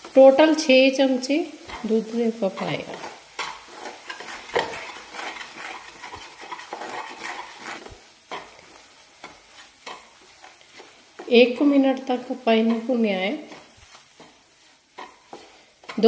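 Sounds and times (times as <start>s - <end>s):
light sizzle of ghee: 0.0s - 16.0s
wooden spatula scraping steel pan: 0.0s - 16.0s.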